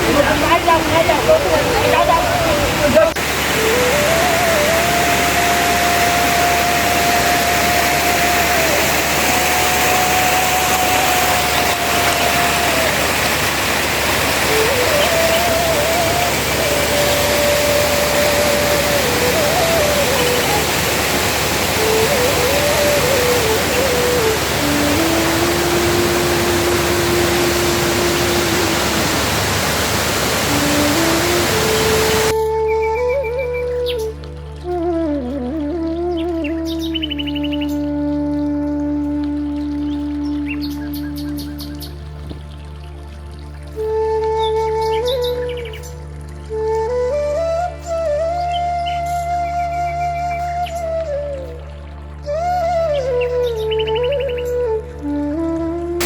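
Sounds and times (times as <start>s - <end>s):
rushing water or heavy rain: 0.0s - 56.0s
slow flute melody: 0.0s - 56.0s.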